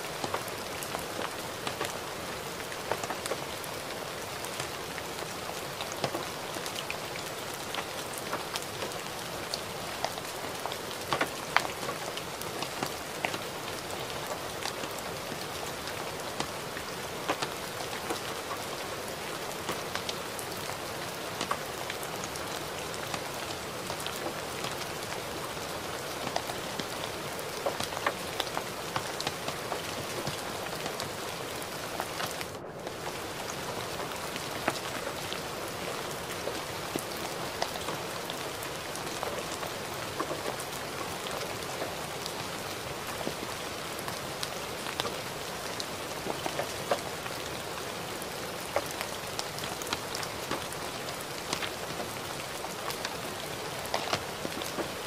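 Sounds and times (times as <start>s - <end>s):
gentle steady rain: 0.0s - 55.0s.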